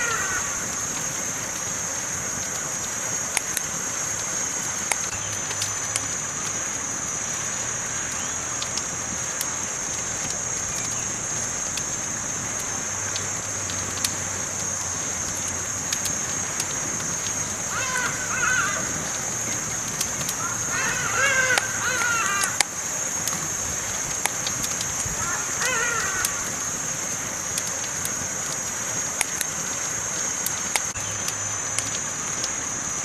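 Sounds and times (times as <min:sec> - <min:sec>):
campfire pops and snaps: 0:00.0 - 0:33.0
high-pitched hiss: 0:00.0 - 0:33.0.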